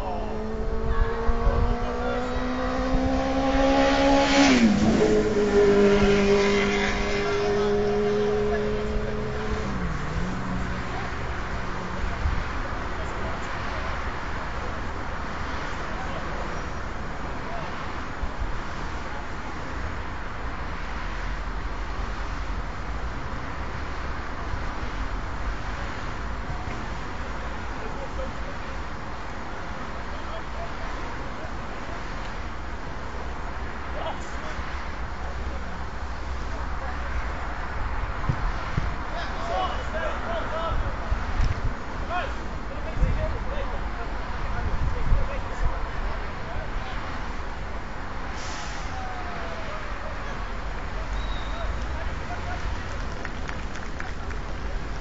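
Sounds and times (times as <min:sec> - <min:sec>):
vehicle engine hum: 0:00.0 - 0:55.0
vehicle passing rush: 0:00.0 - 0:55.0.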